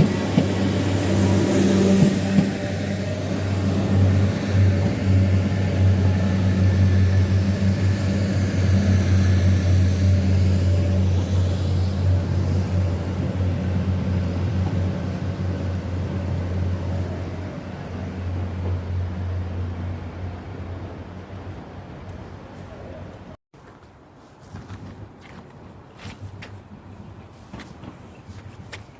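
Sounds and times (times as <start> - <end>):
diesel train engine humming: 0.0 - 23.2.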